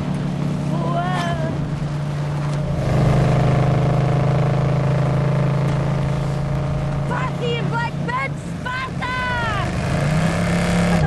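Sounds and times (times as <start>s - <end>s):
car engine running hard: 0.0s - 11.0s.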